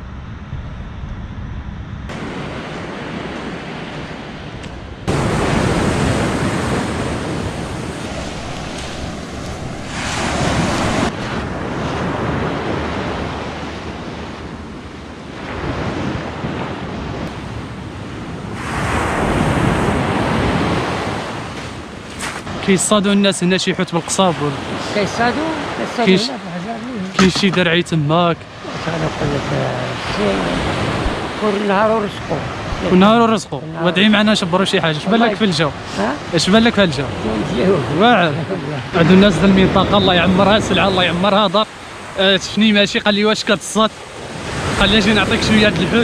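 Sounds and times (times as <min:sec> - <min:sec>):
wind blowing on microphone: 0:00.0 - 0:46.0
sea surf breaking on shore: 0:02.1 - 0:46.0.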